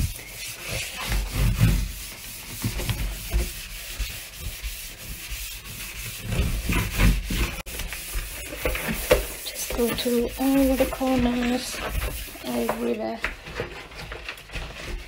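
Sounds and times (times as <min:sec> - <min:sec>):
sponge scrubbing metal drainer: 0:00.0 - 0:15.0.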